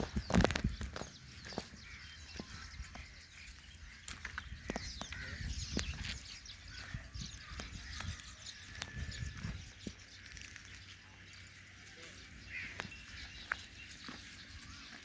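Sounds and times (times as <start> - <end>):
sheep shuffling and moving: 0.0 - 15.0.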